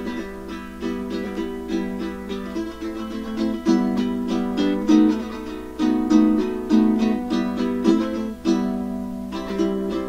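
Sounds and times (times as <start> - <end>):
ukulele strumming chords: 0.0 - 10.0.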